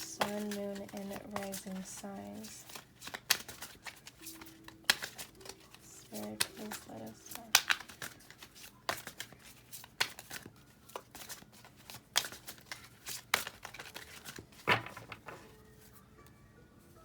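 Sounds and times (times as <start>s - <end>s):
cards being shuffled by hand: 0.0s - 15.9s.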